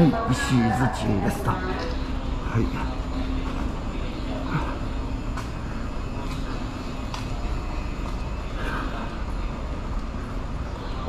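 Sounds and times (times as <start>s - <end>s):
electric train equipment humming: 0.0s - 11.0s.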